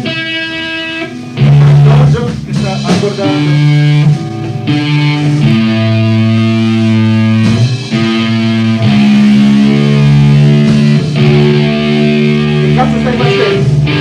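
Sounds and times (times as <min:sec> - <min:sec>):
electric guitar being tuned: 0:00.0 - 0:14.0.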